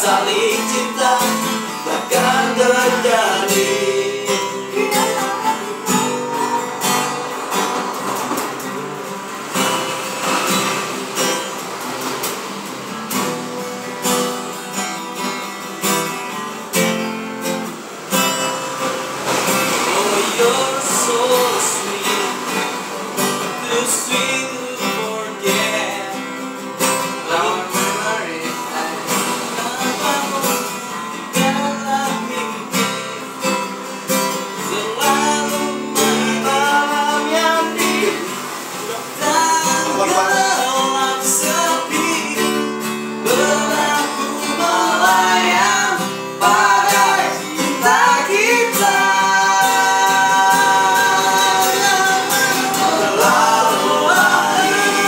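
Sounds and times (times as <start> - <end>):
voices singing: 0.0 - 13.5, 18.8 - 33.4, 34.5 - 55.0
acoustic guitar strumming: 0.0 - 55.0.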